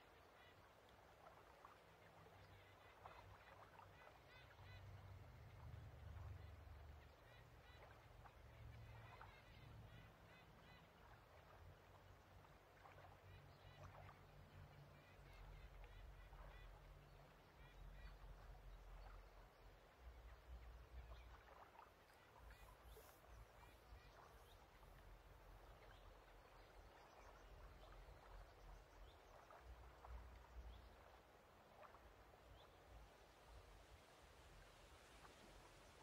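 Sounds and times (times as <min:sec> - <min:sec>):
water lapping: 0:00.0 - 0:36.0.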